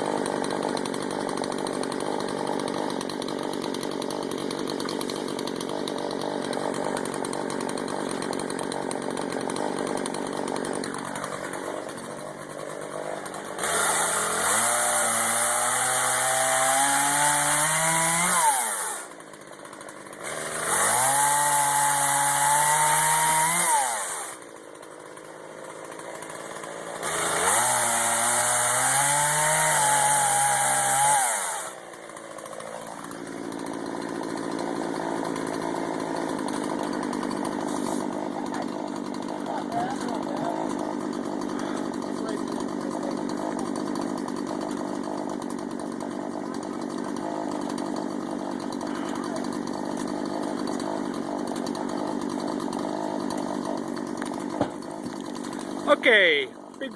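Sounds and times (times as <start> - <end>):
chainsaw idling and revving: 0.0 - 56.9.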